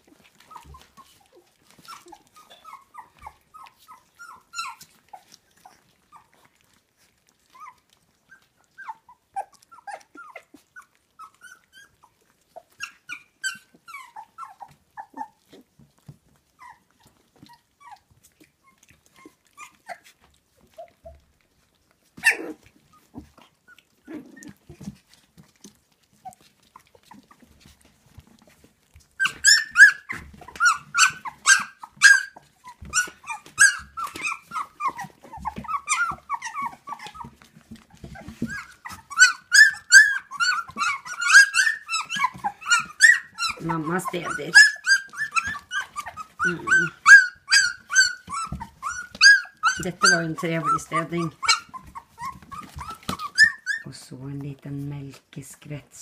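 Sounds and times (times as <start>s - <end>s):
kibble clicking and crunching in bowl: 0.0s - 56.0s
puppies whimpering and squeaking: 0.0s - 56.0s.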